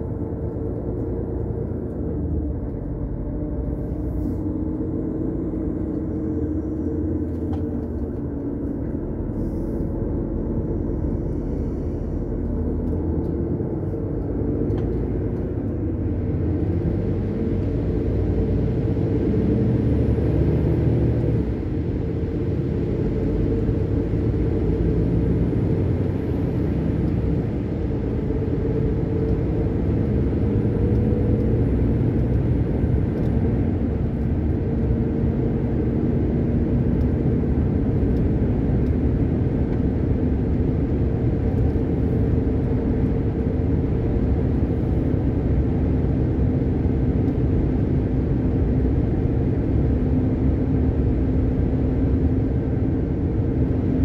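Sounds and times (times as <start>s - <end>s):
road noise: 0.0s - 54.0s
truck engine rumble: 0.0s - 54.0s.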